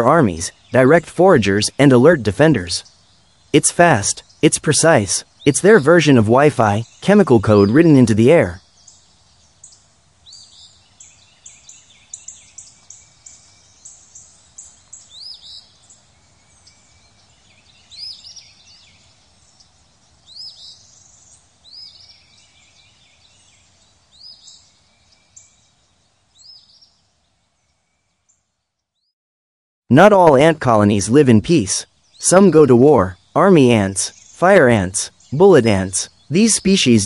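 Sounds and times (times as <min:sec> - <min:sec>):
birds chirping and whistling: 0:00.0 - 0:25.7, 0:32.0 - 0:37.0
faint outdoor hiss: 0:00.0 - 0:29.1, 0:29.9 - 0:37.0.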